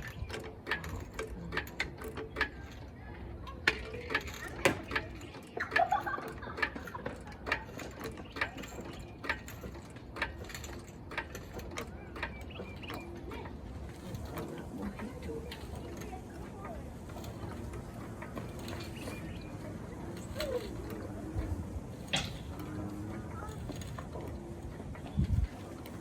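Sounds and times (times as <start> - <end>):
ratchet clicking: 0.0 - 26.0.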